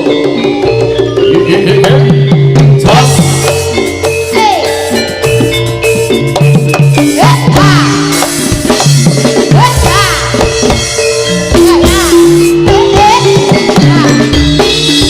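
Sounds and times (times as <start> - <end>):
drum-led ensemble music: 0.0 - 15.0.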